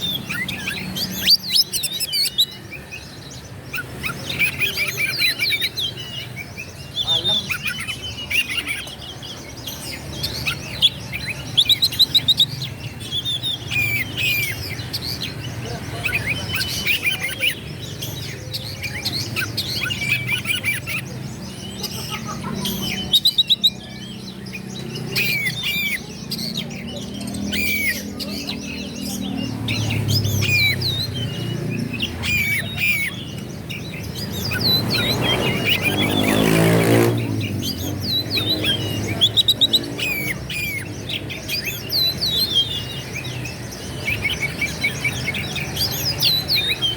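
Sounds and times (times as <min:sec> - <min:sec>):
bird singing chirps and whistles: 0:00.0 - 0:46.9.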